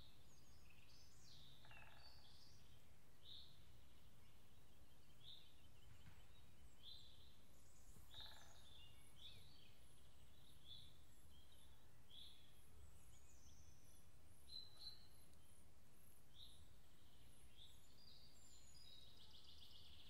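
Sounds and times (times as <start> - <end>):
faint birdsong calls: 0.0 - 20.0.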